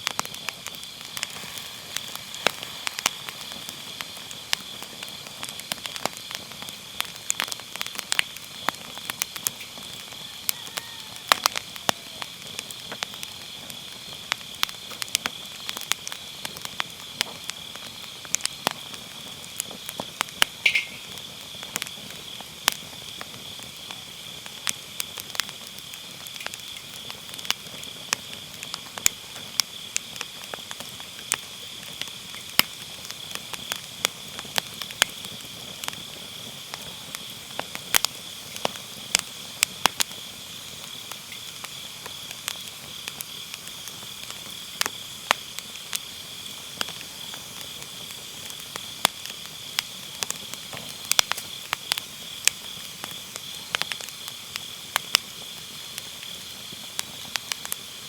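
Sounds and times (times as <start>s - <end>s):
crickets chirping: 0.0s - 58.0s
firewood crackling and popping: 0.0s - 58.0s.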